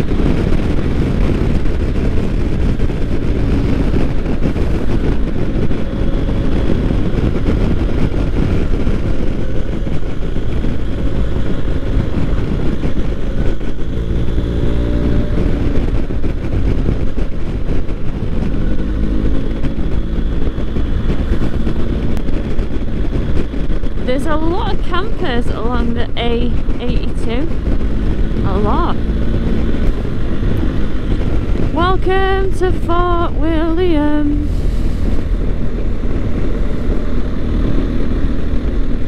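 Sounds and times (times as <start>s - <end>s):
motorcycle engine running: 0.0s - 39.0s
wind and road noise: 0.0s - 39.0s.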